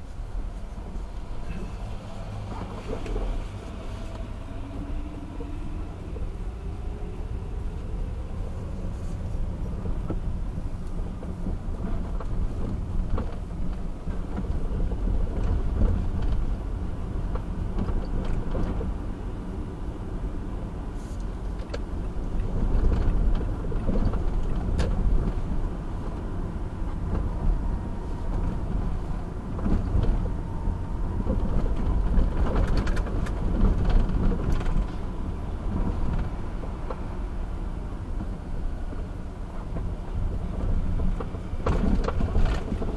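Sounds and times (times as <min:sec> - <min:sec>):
road and engine rumble: 0:00.0 - 0:42.9.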